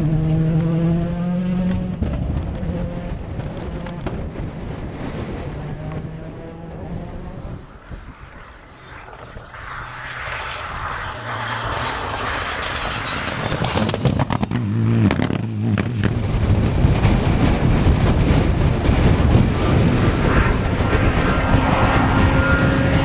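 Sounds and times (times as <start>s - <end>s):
rally car engine approaching: 0.0s - 23.0s.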